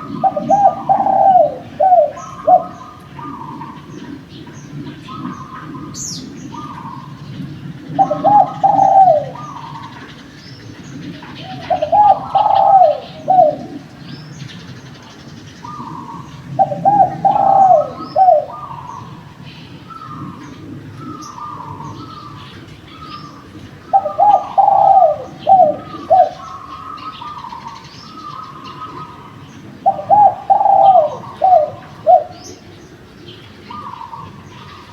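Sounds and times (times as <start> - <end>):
dove cooing: 0.0 - 34.9
small birds chirping: 0.0 - 34.9.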